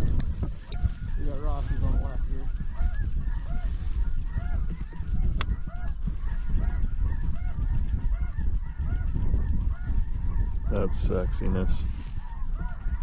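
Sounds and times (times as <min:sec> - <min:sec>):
geese honking: 0:00.0 - 0:13.0
low wind rumble on microphone: 0:00.0 - 0:13.0.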